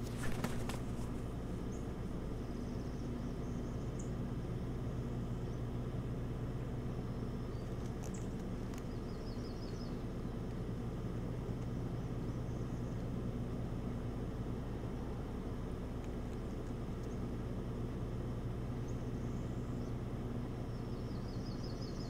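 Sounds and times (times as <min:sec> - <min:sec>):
faint hum: 0:00.0 - 0:22.0
low outdoor rumble: 0:00.0 - 0:22.0
songbirds chirping: 0:00.0 - 0:22.0.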